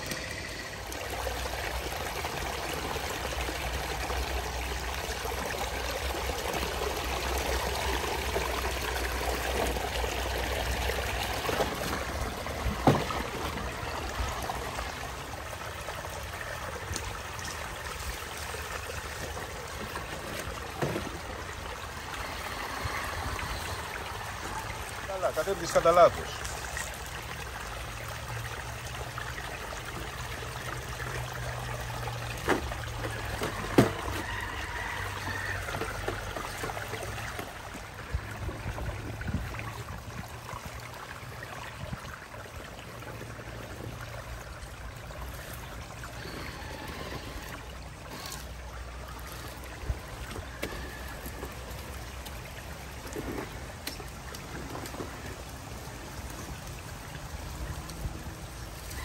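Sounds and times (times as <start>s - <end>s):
stream trickling over rocks: 0.0s - 59.0s.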